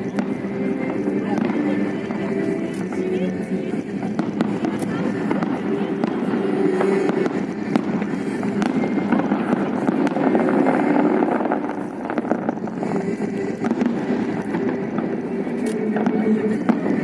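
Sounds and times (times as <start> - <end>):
fireworks cracking: 0.0 - 17.0
outdoor crowd din: 0.0 - 17.0.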